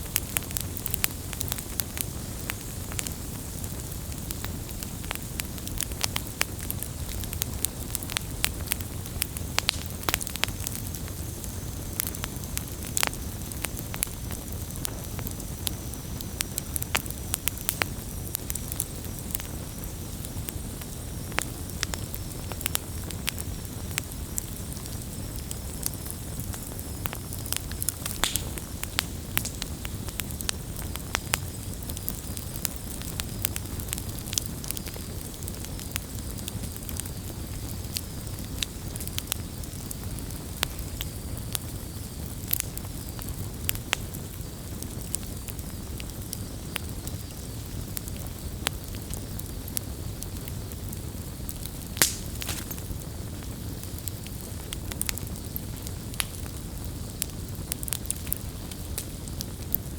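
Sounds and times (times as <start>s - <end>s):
campfire crackling and popping: 0.0s - 59.9s
low fire rumble: 0.0s - 59.9s.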